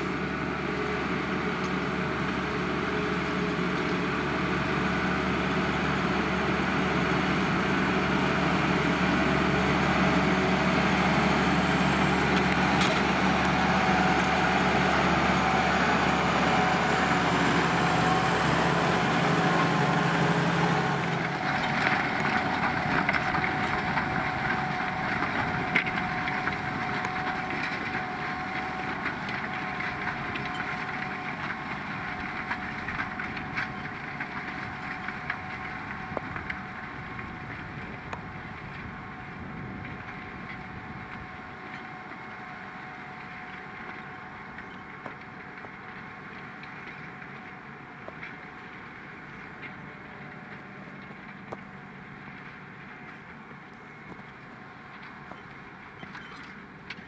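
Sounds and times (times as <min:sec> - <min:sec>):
plough scraping soil: 0:00.0 - 0:57.0
tractor engine under load: 0:00.0 - 0:57.0.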